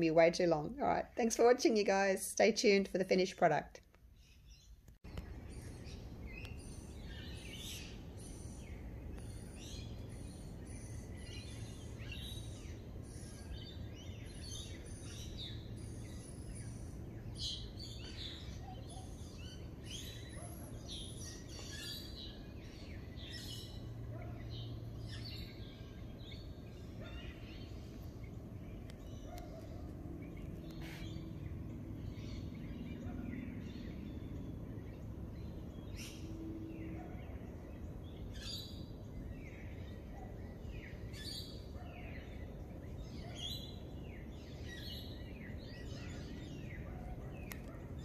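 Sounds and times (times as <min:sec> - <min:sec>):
steady low hum: 0:00.0 - 0:48.0
birds chirping: 0:04.2 - 0:48.0.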